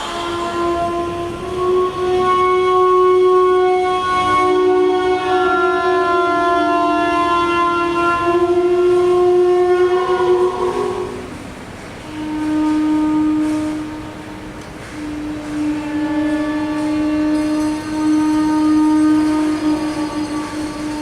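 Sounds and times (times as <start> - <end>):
drone of held horn-like tones: 0.0 - 21.0.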